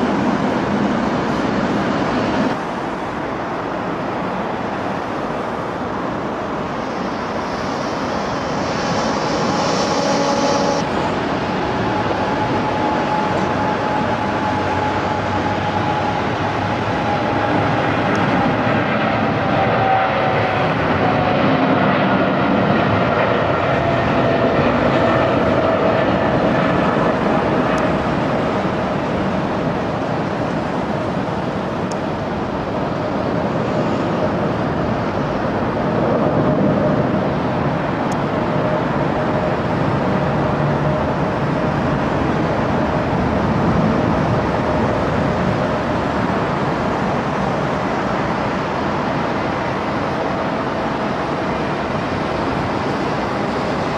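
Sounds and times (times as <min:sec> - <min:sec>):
jet engines roaring and whining: 0:00.0 - 0:53.9.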